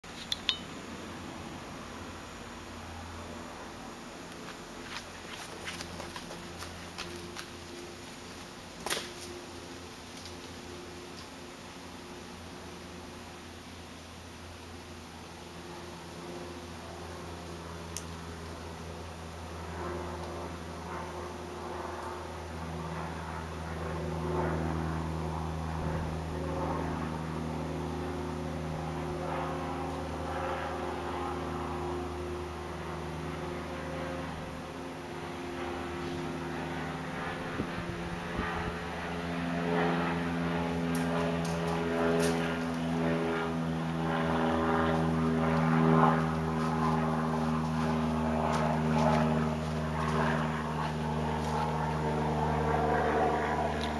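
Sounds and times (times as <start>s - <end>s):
dryer exhaust hum: 0.0s - 53.9s.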